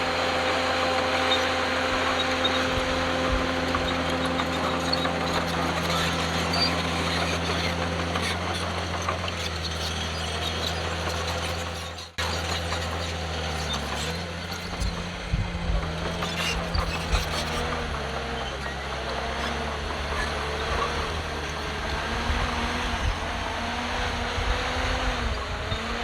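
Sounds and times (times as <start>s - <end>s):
diesel engine running under load: 0.0s - 26.0s.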